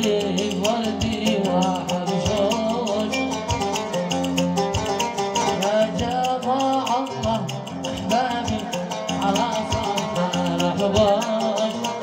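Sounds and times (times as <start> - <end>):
man singing: 0.0 - 4.1, 5.4 - 12.0
hand drum beat: 0.0 - 12.0
plucked string accompaniment: 0.0 - 12.0.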